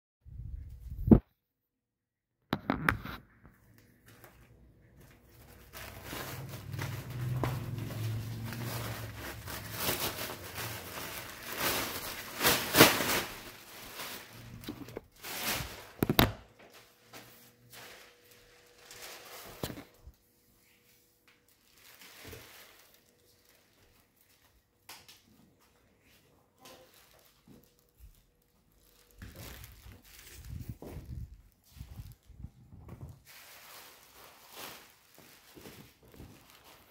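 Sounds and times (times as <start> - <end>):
plastic bag rustling: 4.0 - 24.6, 26.0 - 36.9.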